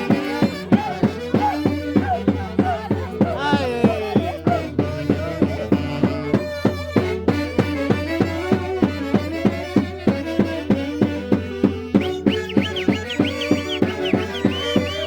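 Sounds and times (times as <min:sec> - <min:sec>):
violin-led melody: 0:00.0 - 0:03.9, 0:04.7 - 0:15.0
steady drumbeat: 0:00.0 - 0:15.0.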